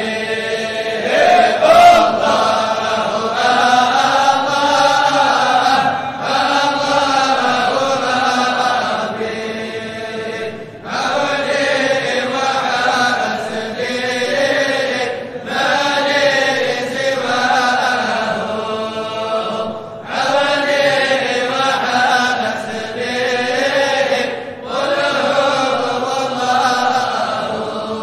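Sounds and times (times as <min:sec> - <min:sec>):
religious chant sung in long phrases: 0:00.0 - 0:28.0.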